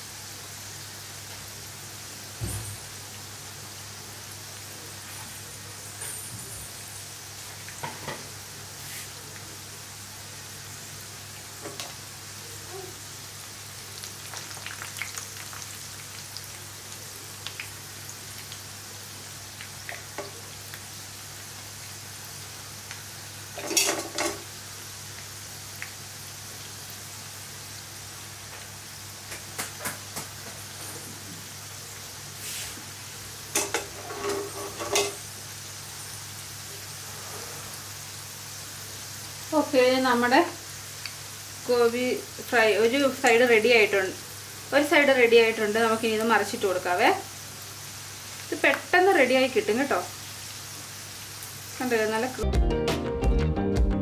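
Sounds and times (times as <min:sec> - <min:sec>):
oil sizzling with pops: 0:00.1 - 0:37.1, 0:37.8 - 0:52.4.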